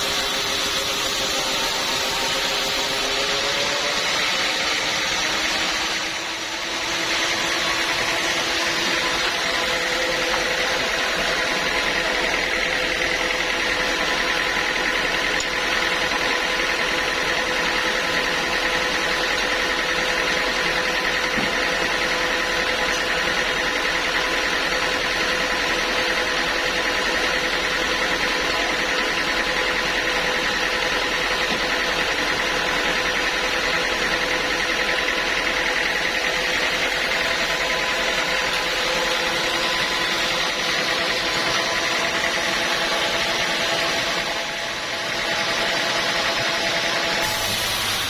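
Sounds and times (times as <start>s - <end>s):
sawmill machinery droning: 0.0s - 48.0s.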